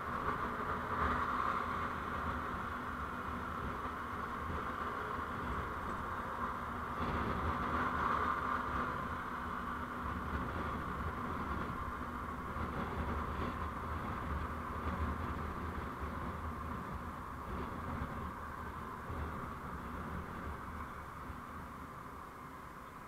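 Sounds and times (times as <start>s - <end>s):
vehicle road noise: 0.0s - 23.0s.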